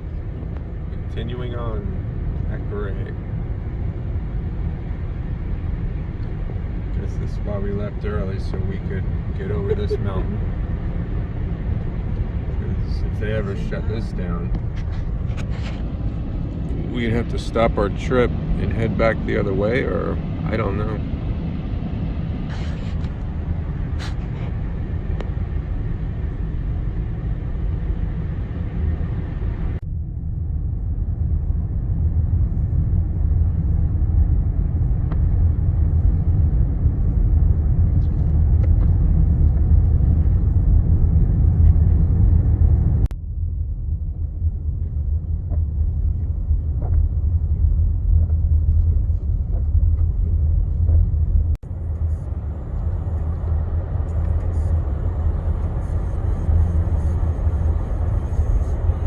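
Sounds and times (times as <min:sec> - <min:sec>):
car interior road and engine rumble: 0:00.0 - 0:59.0.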